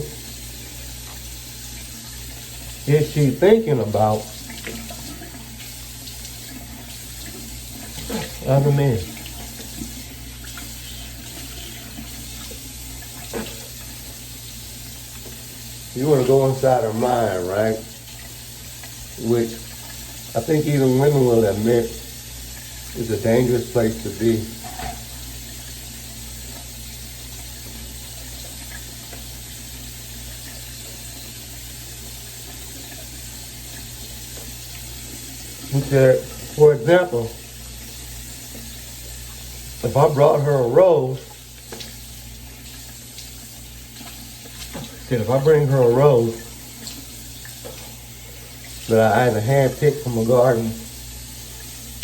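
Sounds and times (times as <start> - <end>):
running water hissing: 0.0 - 52.0.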